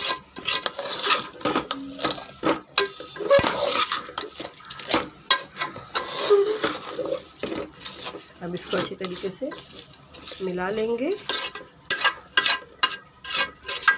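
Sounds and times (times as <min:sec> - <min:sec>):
metal spoon scraping a pot: 0:00.0 - 0:13.9.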